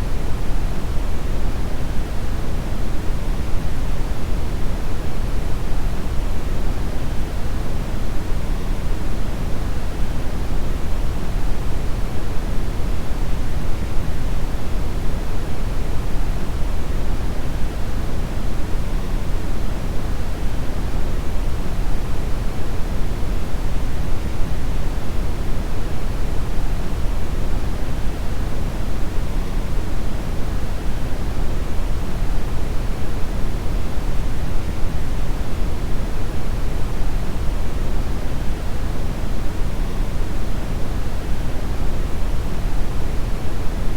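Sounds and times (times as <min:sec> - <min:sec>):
brown noise hiss: 0:00.0 - 0:43.9.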